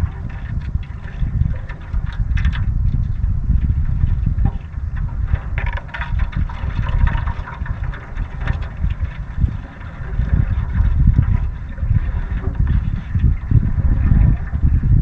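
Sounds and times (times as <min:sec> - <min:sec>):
water splashing against canoe: 0:00.0 - 0:15.0
wind buffeting microphone: 0:00.0 - 0:15.0.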